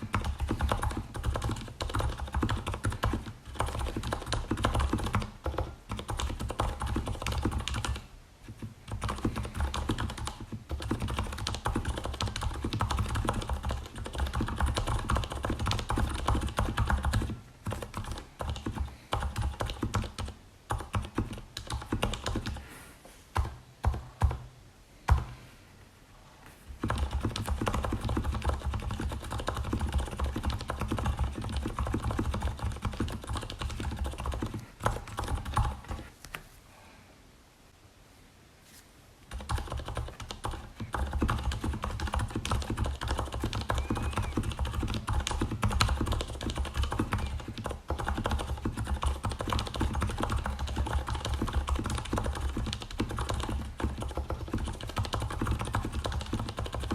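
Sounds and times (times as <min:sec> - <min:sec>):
mechanical keyboard typing: 0:00.0 - 0:22.6, 0:26.8 - 0:36.1, 0:39.3 - 0:56.9.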